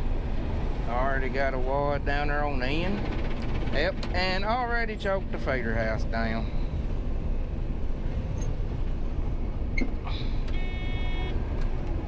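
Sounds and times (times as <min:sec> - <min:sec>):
combine harvester rumbling: 0:00.0 - 0:12.0.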